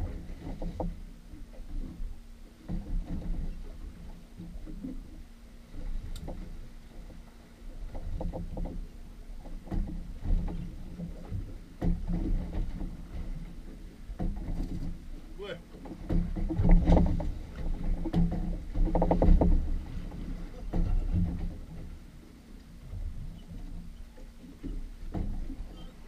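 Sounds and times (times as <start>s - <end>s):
faint steady hum: 0.0s - 26.0s
water lapping against boat hull: 0.0s - 26.0s.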